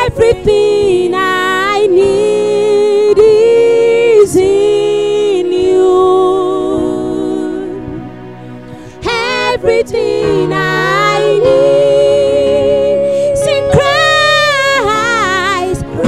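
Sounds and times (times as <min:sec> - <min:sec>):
women singing gospel song: 0:00.0 - 0:08.0, 0:08.8 - 0:16.0.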